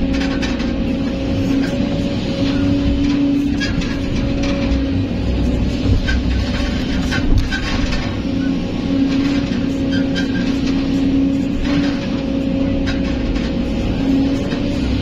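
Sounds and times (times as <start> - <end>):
clunks: 0.0 - 15.0
excavator diesel engine: 0.0 - 15.0
hydraulic whine: 0.0 - 15.0.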